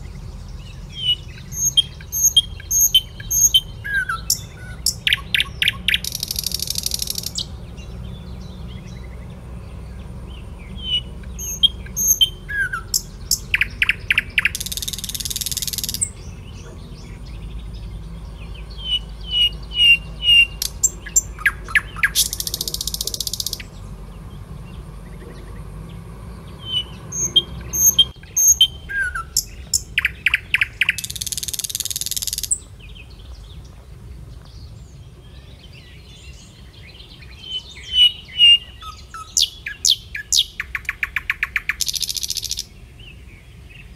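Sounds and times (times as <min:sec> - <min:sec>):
birds chirping and calling: 0:00.0 - 0:43.9.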